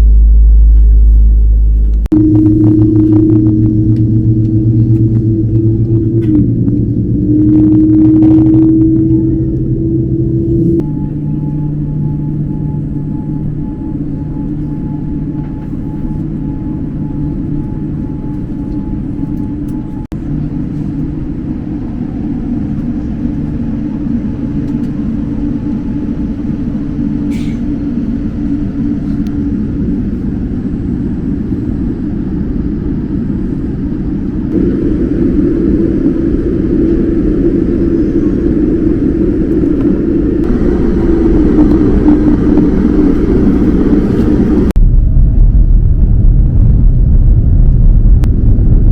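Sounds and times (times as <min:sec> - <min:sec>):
airliner cabin rumble: 0:00.0 - 0:48.9
faint steady whine: 0:00.0 - 0:48.9.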